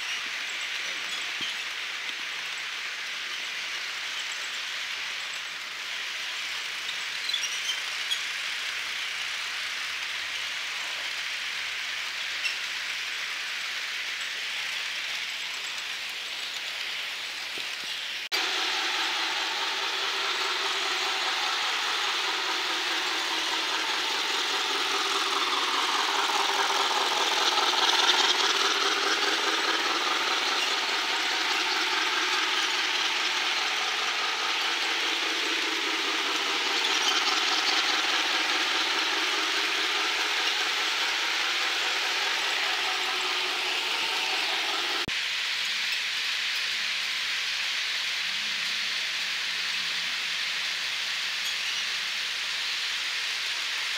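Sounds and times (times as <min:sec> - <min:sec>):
wheels clicking over rails: 0:00.0 - 0:45.2
model train motor whirring: 0:00.0 - 0:53.9.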